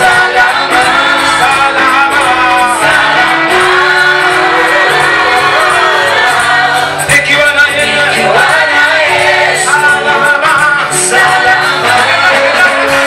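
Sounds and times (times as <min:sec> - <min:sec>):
band accompaniment: 0:00.0 - 0:13.0
voices singing gospel music: 0:00.0 - 0:13.0.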